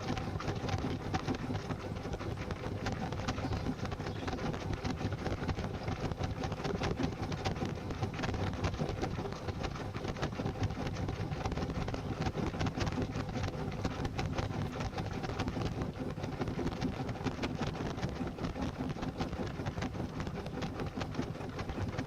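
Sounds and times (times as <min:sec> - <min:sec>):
washing machine humming: 0:00.0 - 0:22.0
water sloshing: 0:00.0 - 0:22.0.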